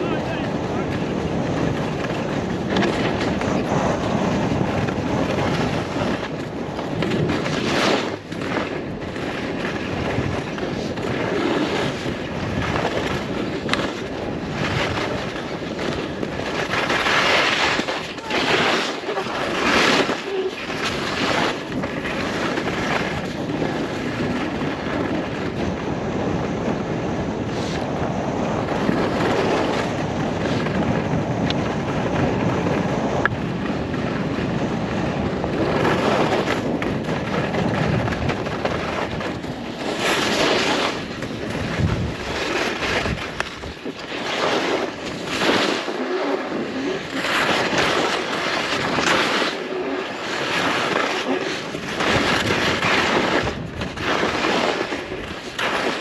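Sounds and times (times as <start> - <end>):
skis scraping on snow: 0.0 - 56.0
wind rushing over microphone: 0.0 - 56.0.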